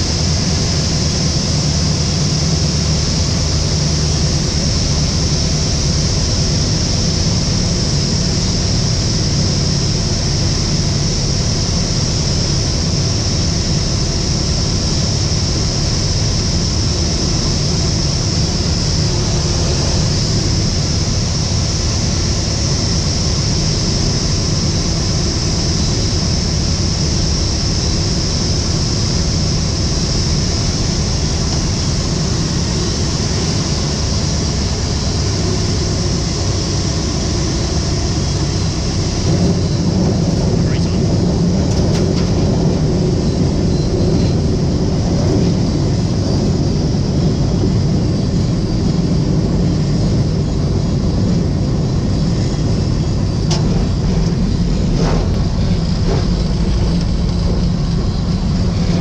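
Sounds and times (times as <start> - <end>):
aircraft engine and propeller: 0.0 - 59.0
wind noise over canopy: 0.0 - 59.0.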